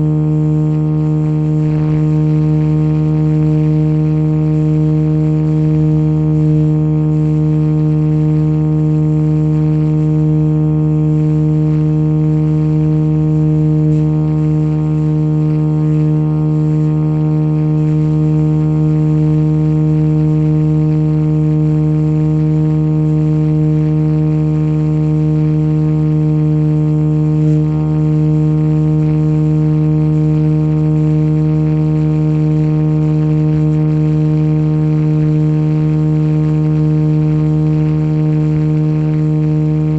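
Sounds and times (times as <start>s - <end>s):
model helicopter hum: 0.0s - 39.9s.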